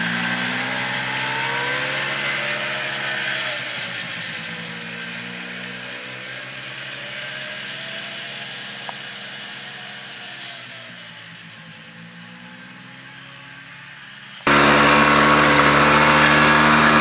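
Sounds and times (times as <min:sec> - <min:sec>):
atv engines running: 0:00.0 - 0:17.0.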